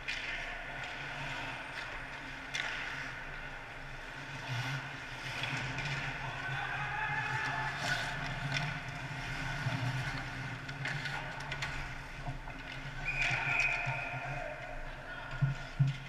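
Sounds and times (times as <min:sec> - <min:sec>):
hockey sticks and puck clacking: 0:00.0 - 0:16.0
low rink hum: 0:00.0 - 0:16.0
skates scraping on ice: 0:00.1 - 0:14.8.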